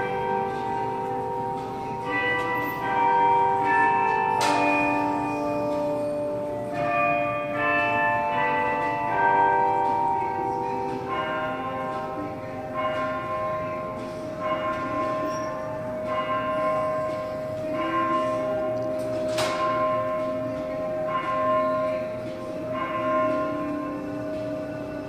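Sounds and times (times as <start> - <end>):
bells ringing: 0.0 - 25.0.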